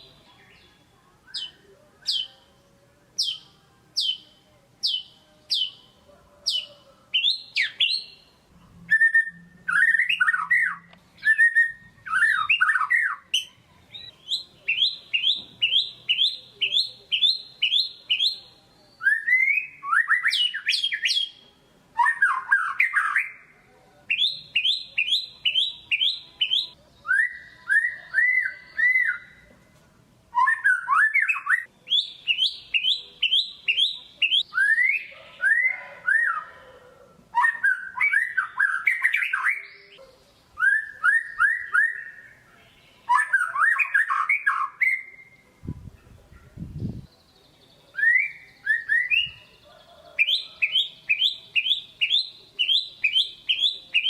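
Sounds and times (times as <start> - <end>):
songbird whistling and chirping: 0.0 - 2.5, 3.2 - 23.5, 24.1 - 29.5, 30.3 - 45.4, 46.3 - 54.0.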